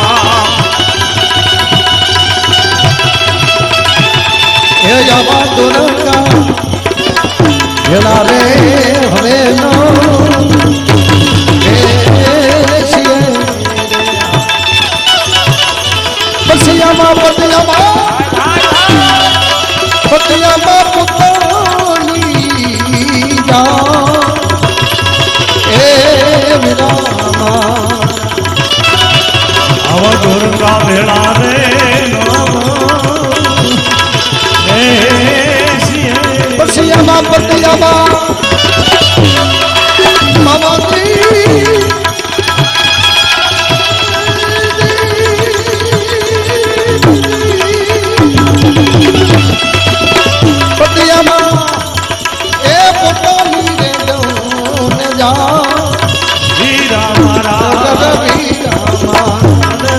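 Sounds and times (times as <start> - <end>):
hand drum rhythm: 0.0 - 59.9
wavering held melody: 0.0 - 59.9.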